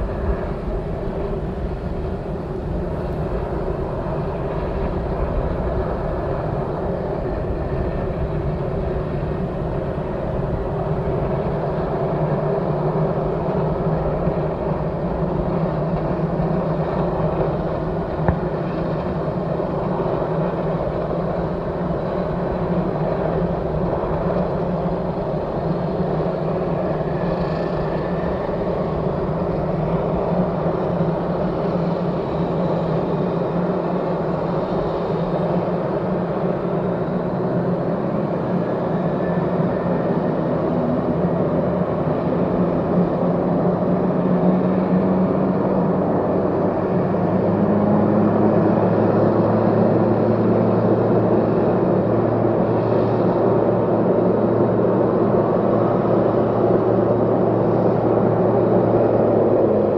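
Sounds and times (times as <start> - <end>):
turboprop engine running: 0.0 - 59.9.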